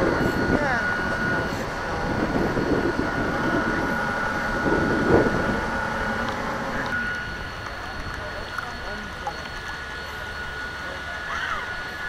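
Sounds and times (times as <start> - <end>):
low rumbling background: 0.0 - 10.7
model boat motor whine: 0.0 - 12.0.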